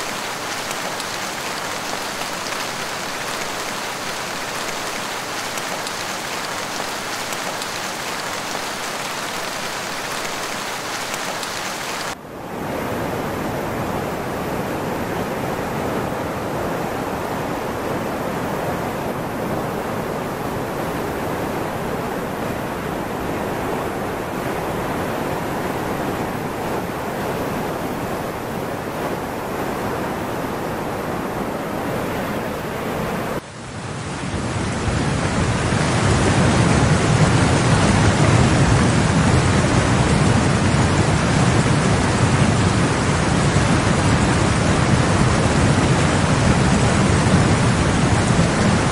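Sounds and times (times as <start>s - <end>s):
churning floodwater: 0.0s - 12.2s, 12.8s - 48.9s
heavy rain: 0.0s - 48.9s.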